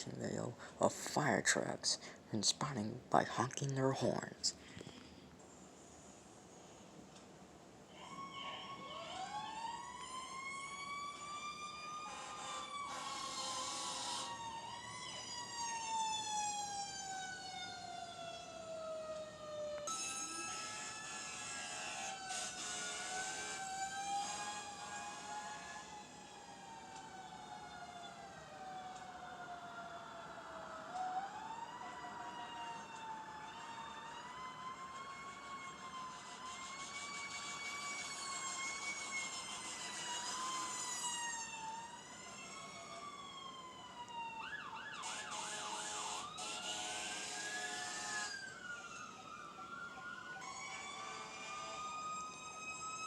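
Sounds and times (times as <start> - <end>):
fire truck sirens wailing: 7.8 - 53.0.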